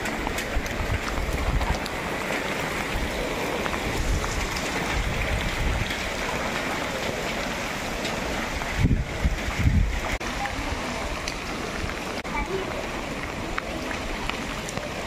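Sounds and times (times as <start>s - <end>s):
heavy rain on flooded street: 0.0s - 15.0s.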